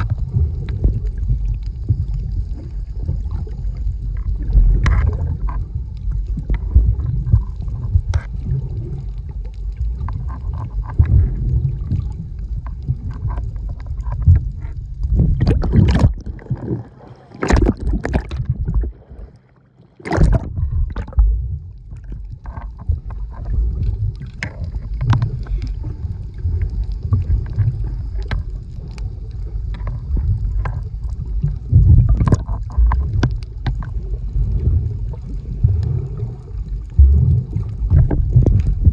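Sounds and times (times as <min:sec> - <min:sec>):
muffled underwater water gurgling: 0:00.0 - 0:38.9
water splashes: 0:00.0 - 0:38.9.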